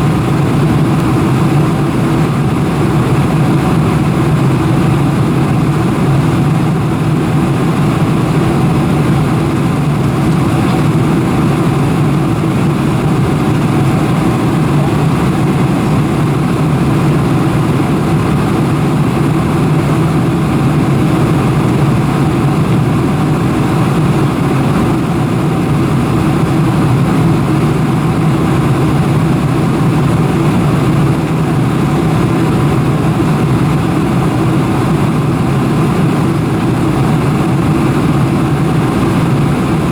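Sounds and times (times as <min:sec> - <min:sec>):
airplane cabin engine hum: 0:00.0 - 0:39.9.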